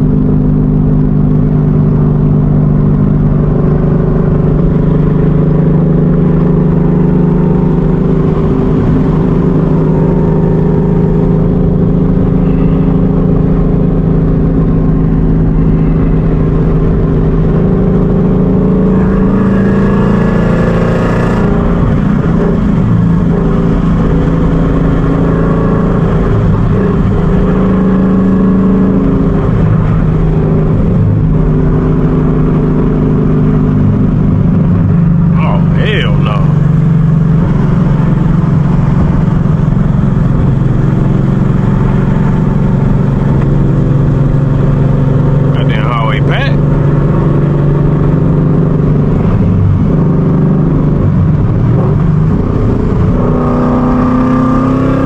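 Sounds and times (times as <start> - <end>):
car exhaust droning at cruise: 0.0 - 55.0.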